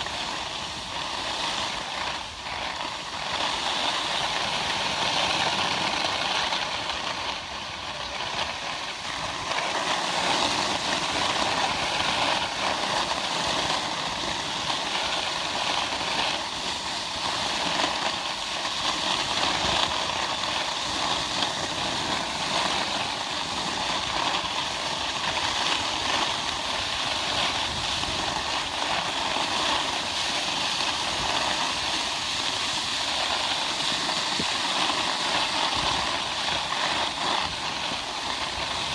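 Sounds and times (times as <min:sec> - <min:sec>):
skis scraping over snow: 0:00.0 - 0:38.9.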